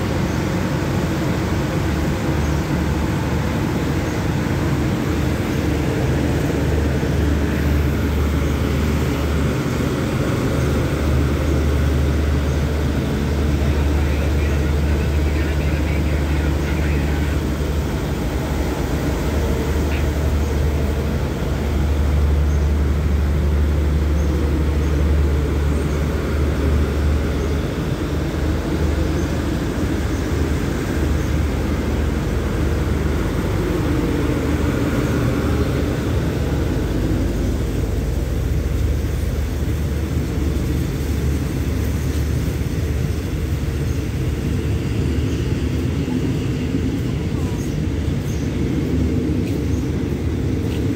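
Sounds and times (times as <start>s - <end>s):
train coaches rolling past: 0.0s - 50.9s.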